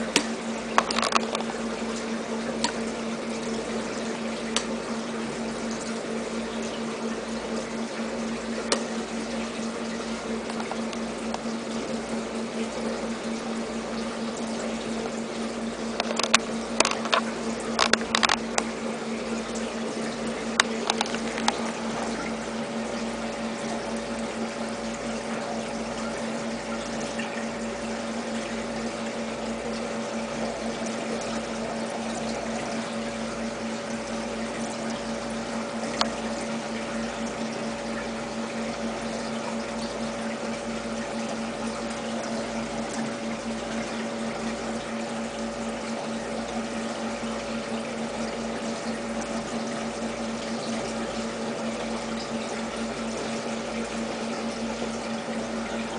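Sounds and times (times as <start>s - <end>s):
aquarium pump hum: 0.0s - 55.9s
water trickling and bubbling: 0.0s - 55.9s.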